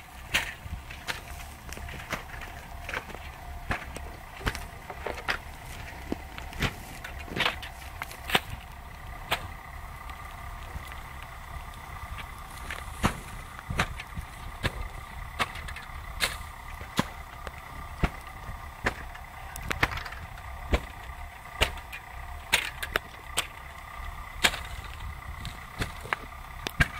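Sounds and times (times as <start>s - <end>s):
dry reeds crackling in fire: 0.0s - 26.9s
steady fire hiss: 0.0s - 26.9s.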